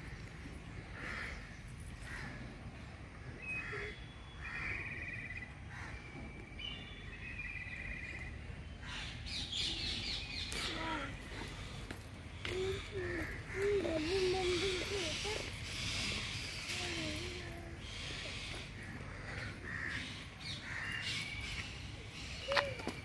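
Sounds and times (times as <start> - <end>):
birds chattering with trills: 0.0 - 23.0.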